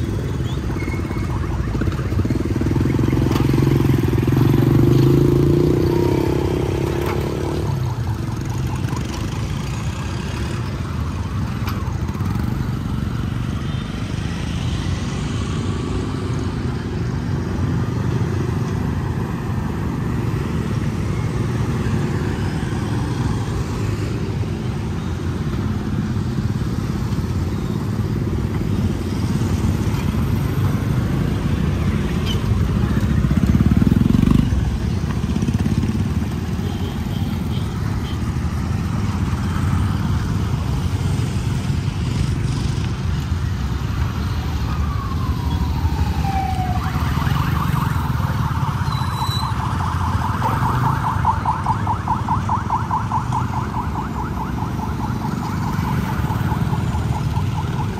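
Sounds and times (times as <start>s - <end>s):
passing vehicles: 0.0s - 57.9s.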